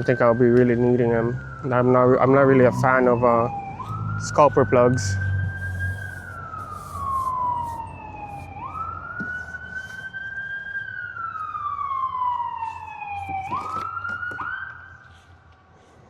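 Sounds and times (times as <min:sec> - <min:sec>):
emergency vehicle siren wailing: 0:00.0 - 0:15.9.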